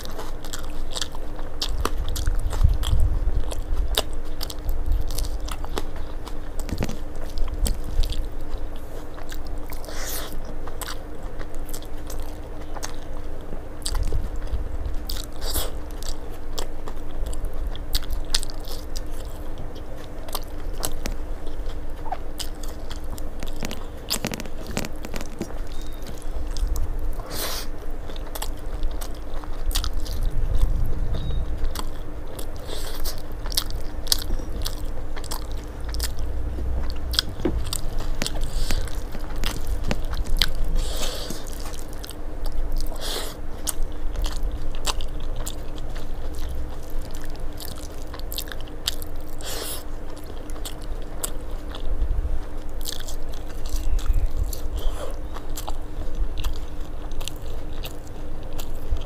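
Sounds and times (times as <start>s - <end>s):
faint steady hum: 0.0s - 59.0s
person chewing and biting food: 0.0s - 59.0s.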